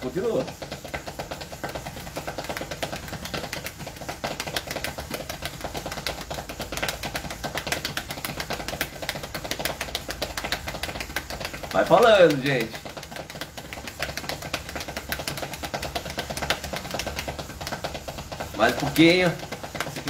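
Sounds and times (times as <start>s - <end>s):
feet tapping on tiled floor: 0.0s - 20.0s.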